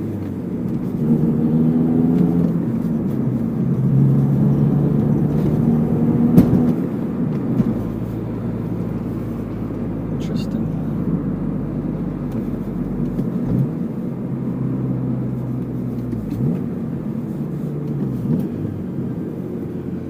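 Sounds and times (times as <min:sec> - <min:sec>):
car engine revving with gear shifts: 0:00.0 - 0:20.0
road rumble: 0:00.0 - 0:20.0.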